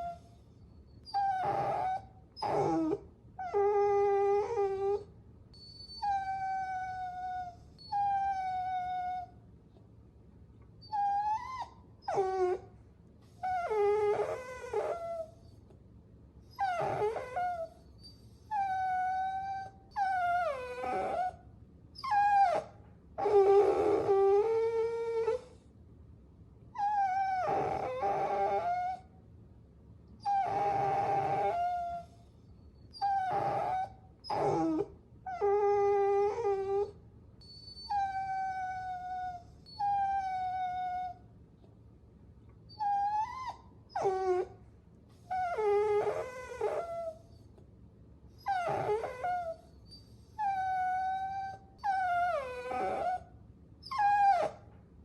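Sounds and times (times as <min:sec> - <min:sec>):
puppies whining: 0:00.0 - 0:09.3, 0:10.8 - 0:12.7, 0:13.3 - 0:15.6, 0:16.5 - 0:21.4, 0:22.0 - 0:25.6, 0:26.8 - 0:29.0, 0:30.2 - 0:41.2, 0:42.7 - 0:44.6, 0:45.2 - 0:47.5, 0:48.4 - 0:54.7.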